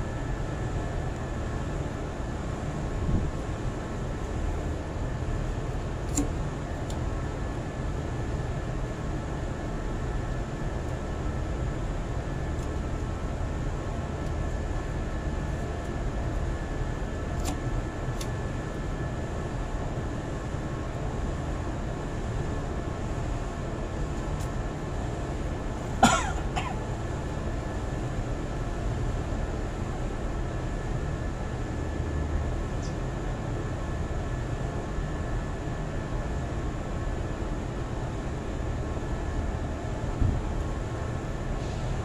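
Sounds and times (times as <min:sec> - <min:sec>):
faint steady whine: 0:00.0 - 0:42.0.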